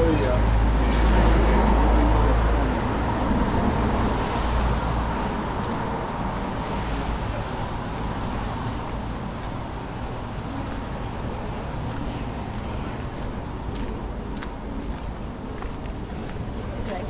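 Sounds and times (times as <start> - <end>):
steady traffic noise: 0.0 - 17.0.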